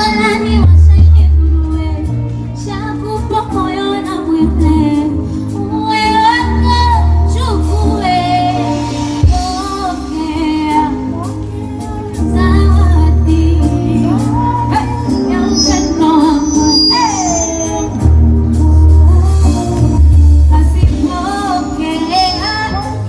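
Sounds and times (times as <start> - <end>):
backing track with heavy bass: 0.0 - 23.0
woman singing: 0.0 - 23.0.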